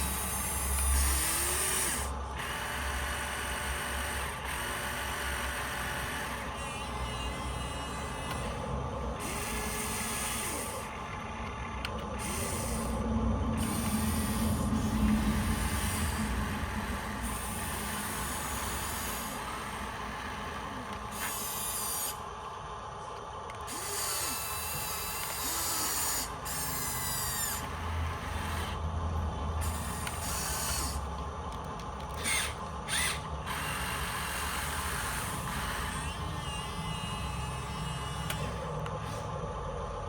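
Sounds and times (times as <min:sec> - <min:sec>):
small electric motors whirring: 0:00.0 - 0:40.0.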